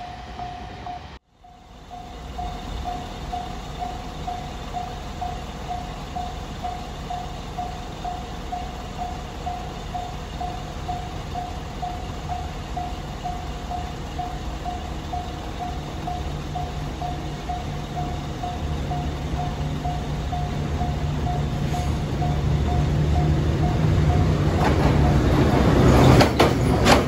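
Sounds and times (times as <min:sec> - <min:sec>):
level-crossing warning bell: 0:00.0 - 0:26.2
freight train rumble: 0:00.0 - 0:27.0.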